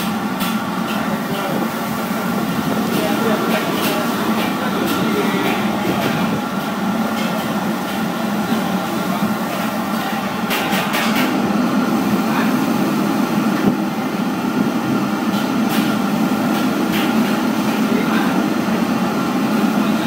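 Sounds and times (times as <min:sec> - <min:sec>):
low rumble of machinery: 0:00.0 - 0:16.6.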